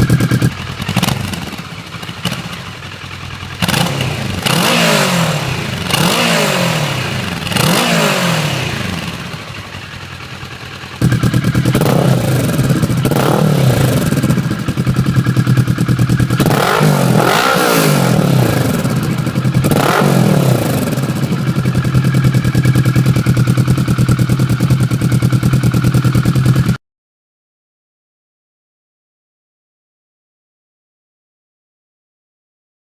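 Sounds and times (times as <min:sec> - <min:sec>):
motorcycle engine idling and revving: 0:00.0 - 0:26.8.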